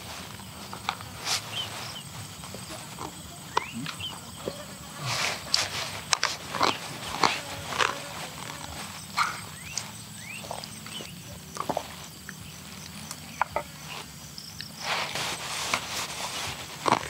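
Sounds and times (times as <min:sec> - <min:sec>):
mouth sounds of eating: 0:00.0 - 0:17.0.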